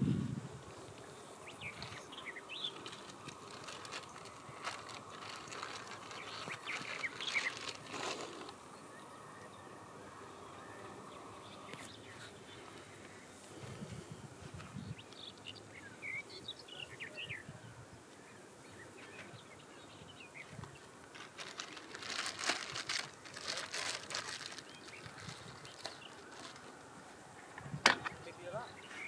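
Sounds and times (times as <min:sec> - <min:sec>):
low background ambience: 0:00.0 - 0:29.0.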